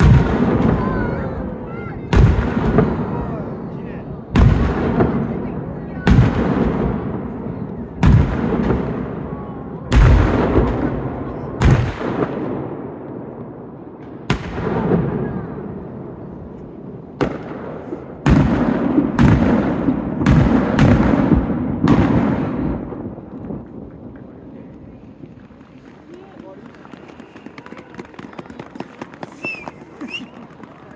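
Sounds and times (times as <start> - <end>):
fireworks bursting with echo: 0.0 - 30.9.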